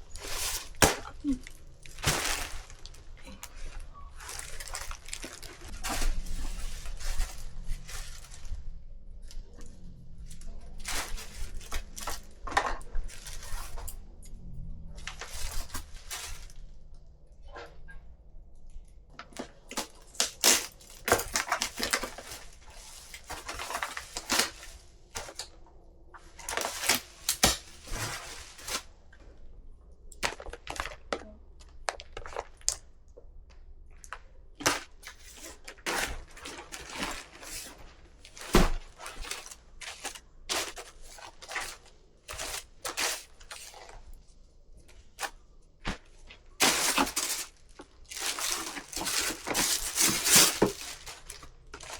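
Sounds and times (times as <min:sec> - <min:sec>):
objects knocking and rustling: 0:00.0 - 0:14.2, 0:19.1 - 0:25.5, 0:30.2 - 0:44.2, 0:44.8 - 0:51.9.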